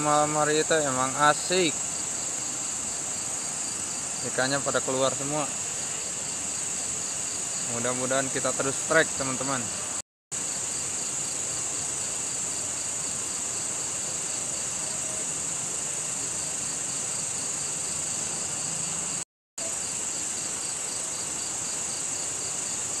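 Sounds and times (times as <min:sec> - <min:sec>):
crickets trilling: 0:00.0 - 0:23.0
pulsing insect call: 0:00.0 - 0:23.0.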